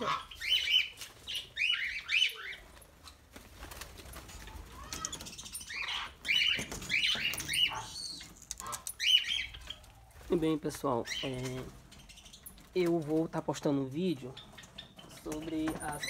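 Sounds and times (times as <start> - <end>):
birds chirping: 0.0 - 3.3, 4.2 - 16.0.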